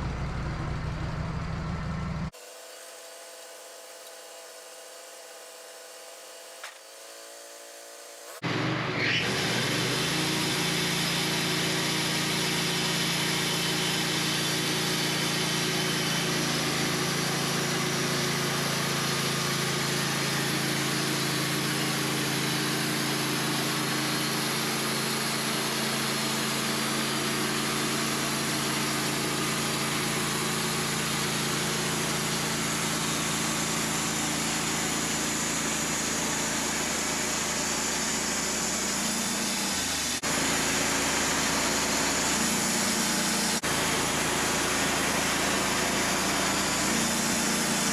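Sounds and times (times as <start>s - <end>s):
sawmill engine hum: 0.0s - 47.9s.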